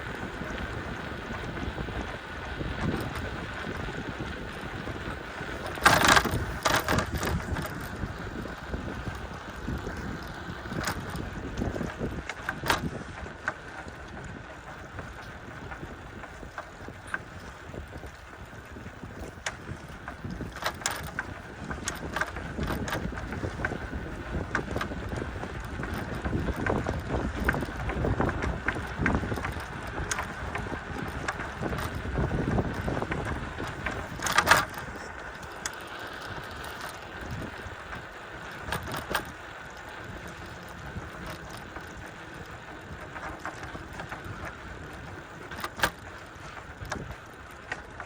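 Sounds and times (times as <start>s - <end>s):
bicycle rumbling on trail: 0.0s - 48.0s
wind buffeting microphone: 0.0s - 48.0s.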